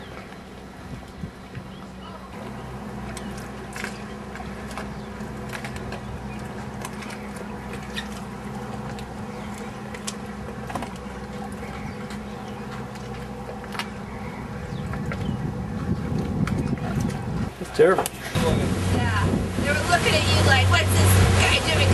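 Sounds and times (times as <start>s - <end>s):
boat engine running: 0.0s - 21.9s.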